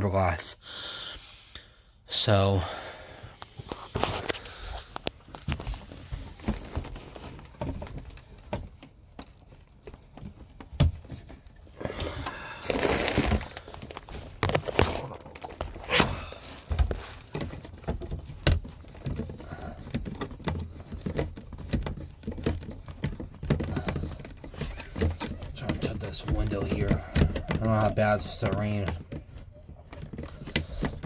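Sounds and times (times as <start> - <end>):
knocks and thumps of handling: 3.2 - 31.0
rustling or crinkling: 3.2 - 31.0.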